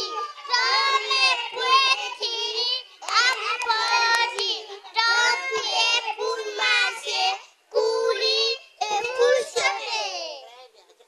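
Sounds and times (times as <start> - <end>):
children singing together: 0.0 - 10.2.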